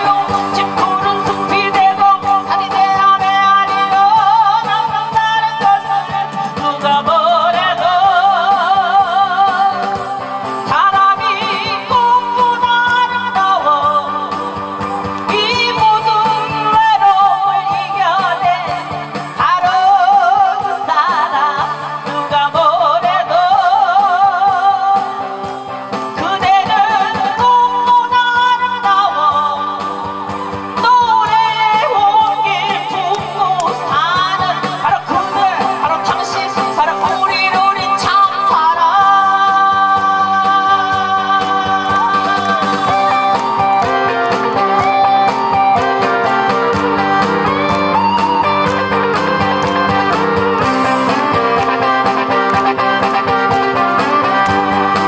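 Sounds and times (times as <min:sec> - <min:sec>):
amplified instrumental accompaniment: 0:00.0 - 0:55.0
woman singing into a microphone: 0:00.0 - 0:55.0.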